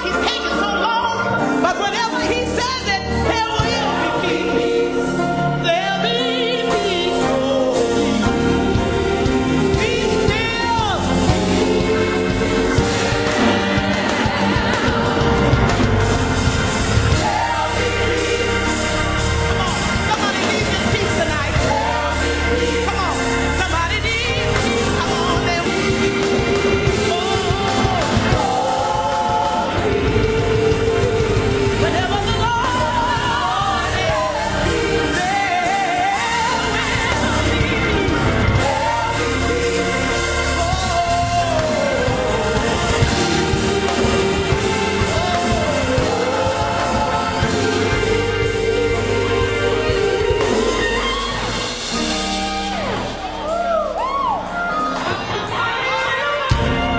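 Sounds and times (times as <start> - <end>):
gospel song with band: 0.0 - 56.9
steady bass: 0.0 - 56.9.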